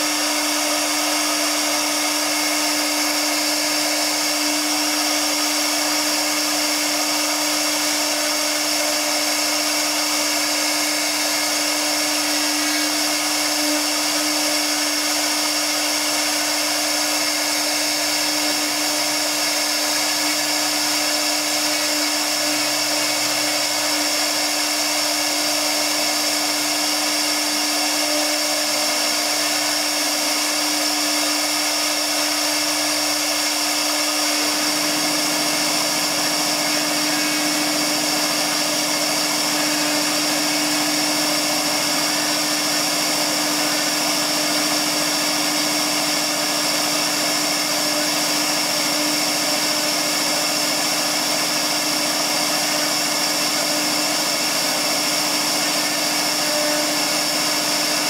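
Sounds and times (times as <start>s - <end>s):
router bit cutting hiss: 0.0s - 58.0s
router spindle whine: 0.0s - 58.0s.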